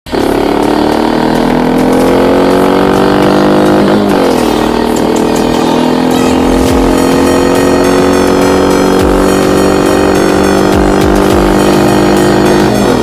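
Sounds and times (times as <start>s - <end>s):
motorcycle engine accelerating: 0.1s - 13.0s.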